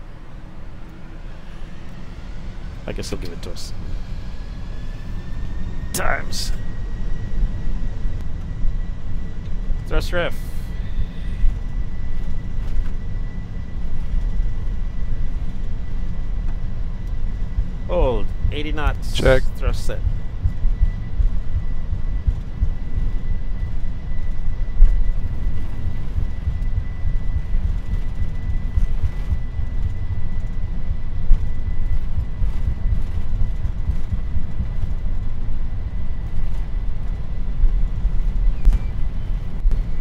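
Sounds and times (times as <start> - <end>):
jet engines low rumble: 0.0 - 40.0.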